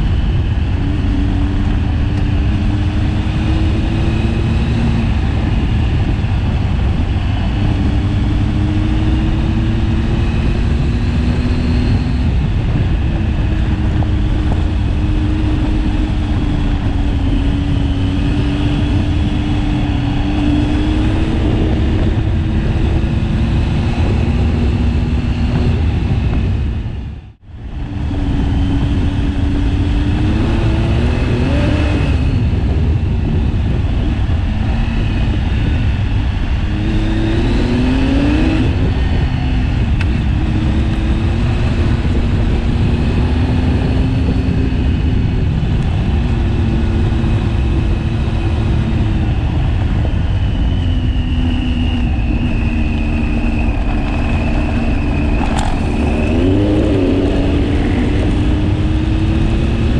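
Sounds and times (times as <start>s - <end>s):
heavy wind rumble on microphone: 0.0s - 59.9s
motorcycle engine revving: 0.0s - 59.9s.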